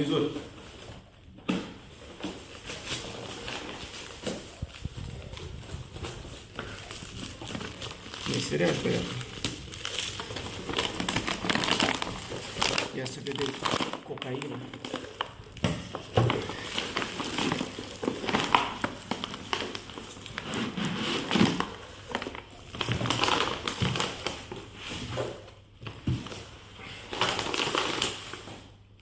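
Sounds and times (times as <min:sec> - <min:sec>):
packing material crinkling: 0:00.0 - 0:29.0.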